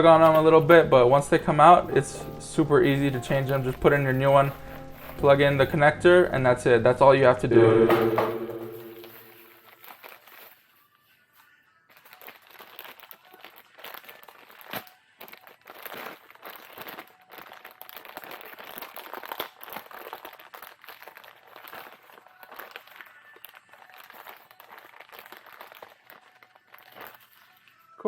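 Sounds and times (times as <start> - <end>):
plastic packaging crinkling: 0.0 - 5.8, 8.7 - 28.0.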